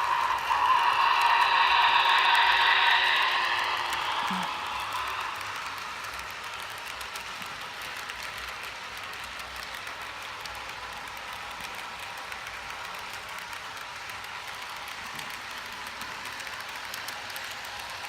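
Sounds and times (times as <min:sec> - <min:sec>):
model train on track: 0:00.0 - 0:18.0.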